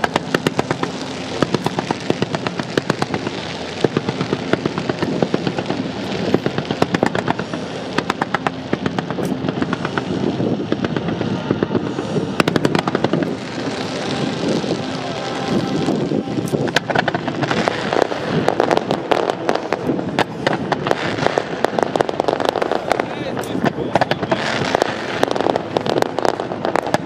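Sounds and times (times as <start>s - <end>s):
fireworks bangs: 0.0s - 27.0s
rumbling hiss: 0.0s - 27.0s.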